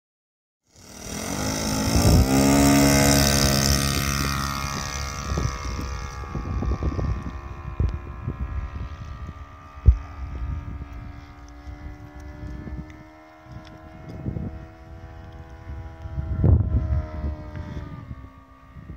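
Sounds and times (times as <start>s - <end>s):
model airplane engine at full throttle: 0.7s - 18.9s
wind buffeting microphone: 1.0s - 18.9s.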